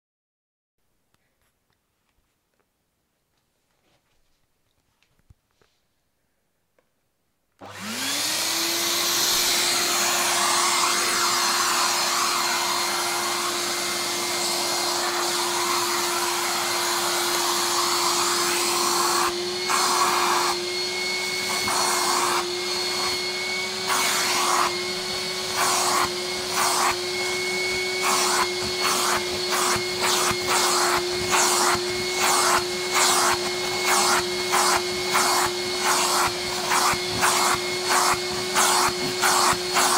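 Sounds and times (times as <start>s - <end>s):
vacuum cleaner motor whine: 7.6s - 39.9s.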